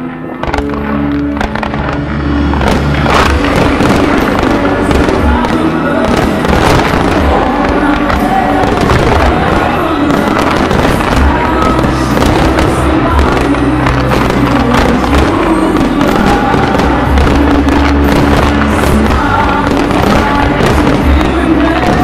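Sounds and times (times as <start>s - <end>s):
fireworks bursting and crackling: 0.0s - 22.0s
loud music: 0.0s - 22.0s.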